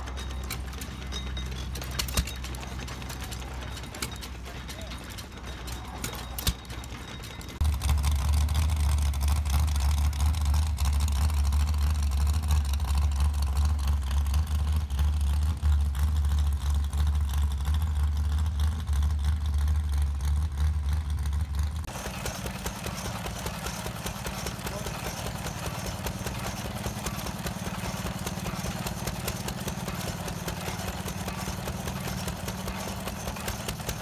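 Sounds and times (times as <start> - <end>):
tractor engine rumbling: 0.0 - 34.0.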